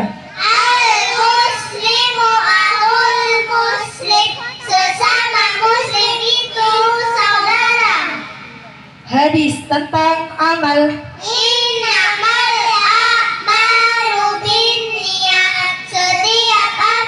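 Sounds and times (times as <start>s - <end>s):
children chanting over loudspeaker: 0.0s - 8.4s, 11.2s - 17.0s.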